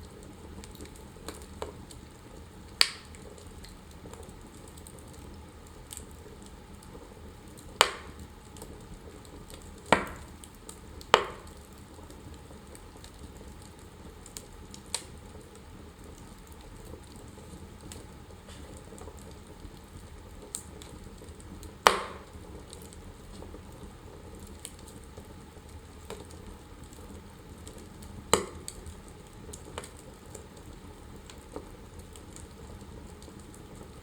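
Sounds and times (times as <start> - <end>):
sharp pops from burning logs: 0.0 - 34.0
wood fire crackling: 0.0 - 34.0.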